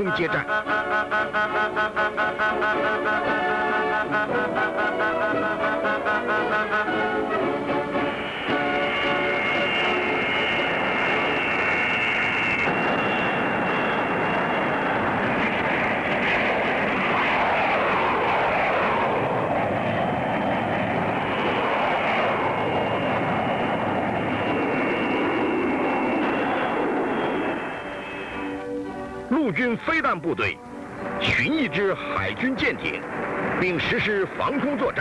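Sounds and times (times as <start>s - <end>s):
jet engines with turbine whine: 0.0s - 35.0s.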